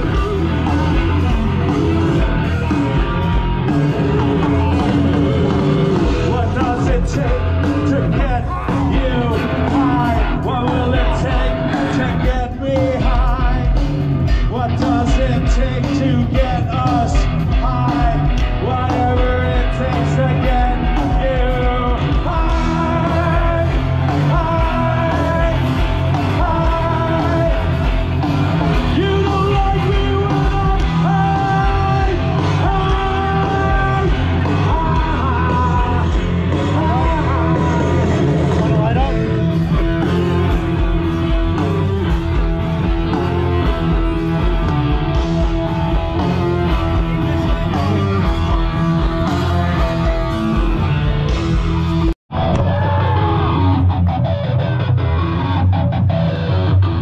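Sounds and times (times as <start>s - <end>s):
person singing: 0.0s - 51.0s
live rock band playing: 0.0s - 57.0s.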